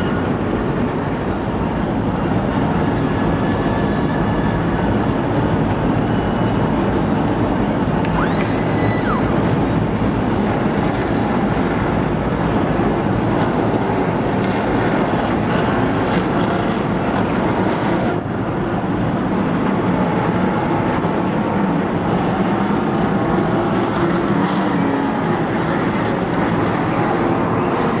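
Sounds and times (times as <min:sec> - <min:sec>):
race truck engines: 0:00.0 - 0:28.0.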